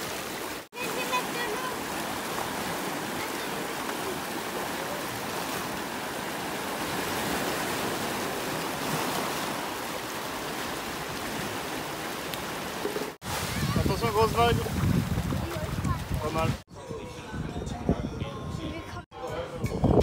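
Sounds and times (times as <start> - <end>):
waves splashing: 0.0 - 16.6.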